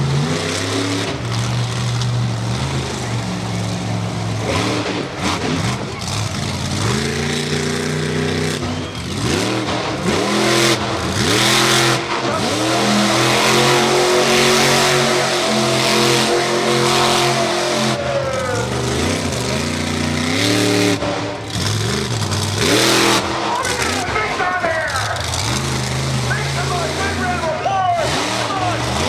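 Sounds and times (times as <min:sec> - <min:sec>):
race car engines: 0:00.0 - 0:29.0.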